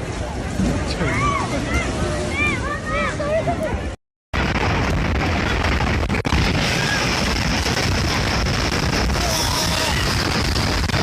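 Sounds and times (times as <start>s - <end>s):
loud continuous rumbling: 0.0s - 11.0s.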